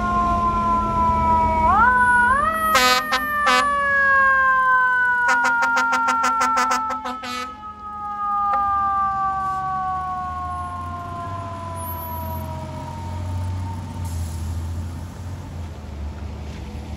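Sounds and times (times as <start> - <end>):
siren winding down: 0.0 - 14.9
diesel engine rumble: 0.0 - 16.9.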